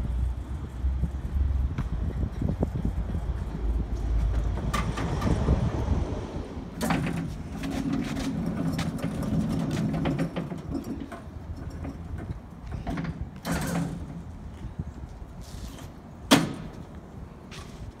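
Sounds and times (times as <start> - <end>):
stacker wheels rumbling on concrete: 0.2 - 18.0.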